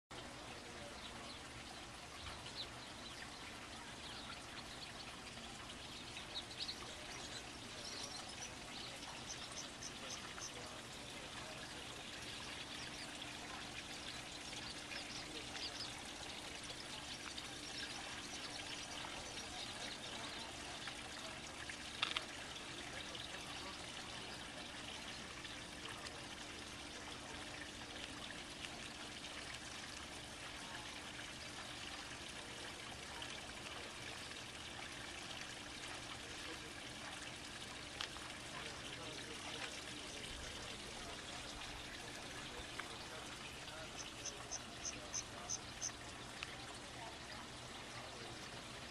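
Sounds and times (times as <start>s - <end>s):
faint low hum: 0.2s - 48.9s
water lapping at shore: 0.2s - 48.9s.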